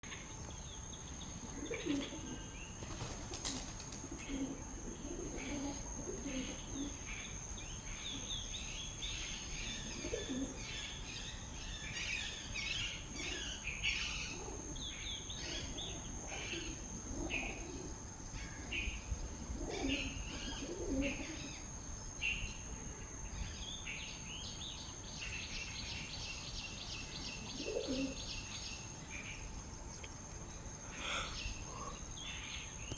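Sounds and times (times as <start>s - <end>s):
birds chirping and twittering: 0.1s - 32.9s
high insect drone: 0.1s - 32.9s.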